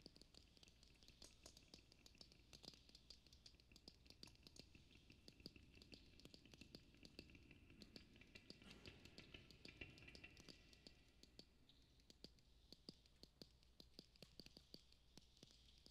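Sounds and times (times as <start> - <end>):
small clicks and scratches: 0.0 - 15.9.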